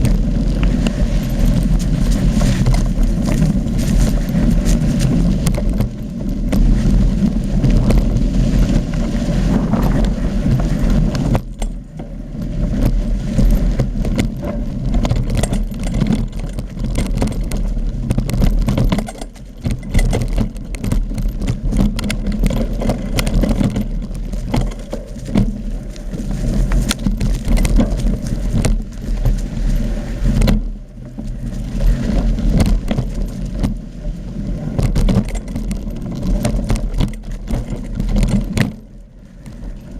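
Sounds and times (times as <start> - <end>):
mountain bike rattling: 0.0 - 39.9
wind buffeting microphone: 0.0 - 39.9.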